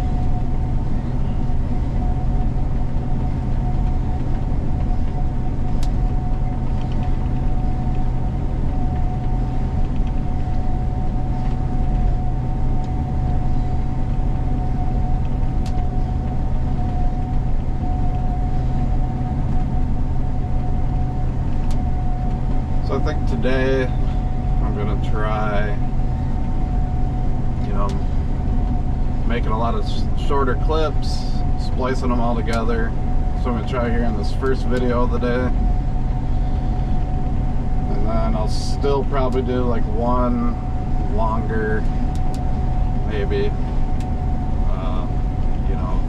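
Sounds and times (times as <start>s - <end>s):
combine engine drone with whine: 0.0s - 46.0s.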